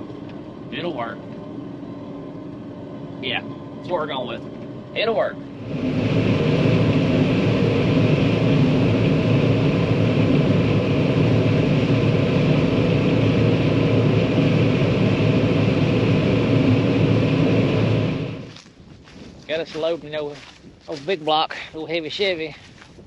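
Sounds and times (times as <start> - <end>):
diesel machinery running: 0.0 - 23.0.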